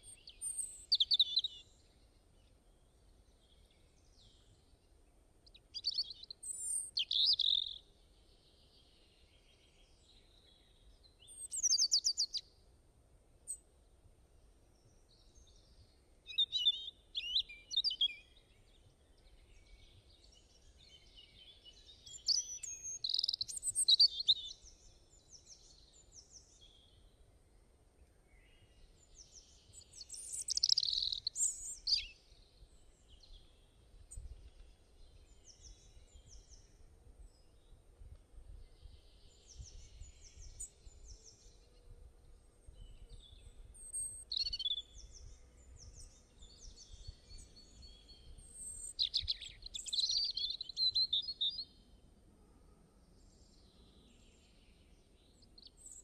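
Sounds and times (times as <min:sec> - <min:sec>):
wild birds singing and chirping: 0:00.0 - 0:12.6, 0:14.7 - 0:56.0.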